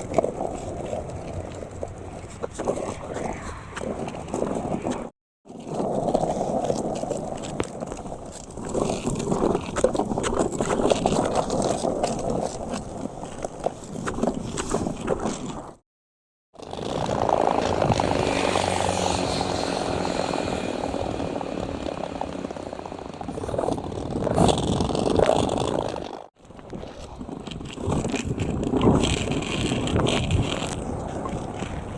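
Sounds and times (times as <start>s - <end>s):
wheels clicking over joints: 0.0s - 15.7s, 16.6s - 31.9s
skateboard wheels rolling on pavement: 0.0s - 15.8s, 16.6s - 31.9s.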